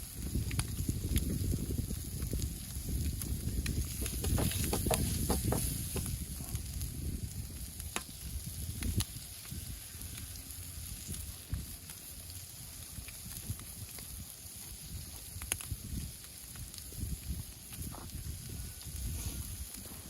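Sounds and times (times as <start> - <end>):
butter sizzling in a pan: 0.0 - 19.8.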